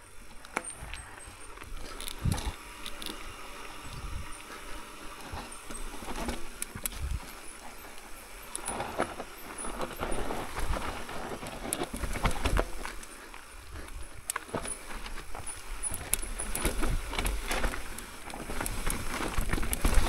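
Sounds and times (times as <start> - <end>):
bike tyres on dirt and rock: 0.0 - 20.0.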